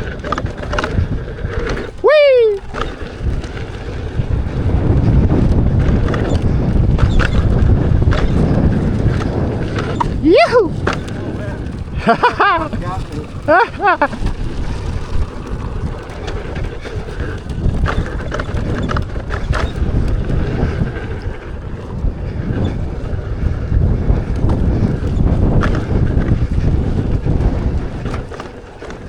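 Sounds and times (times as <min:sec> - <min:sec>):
wheel knocks and clatters: 0:00.0 - 0:29.0
wind buffeting microphone: 0:00.0 - 0:29.0.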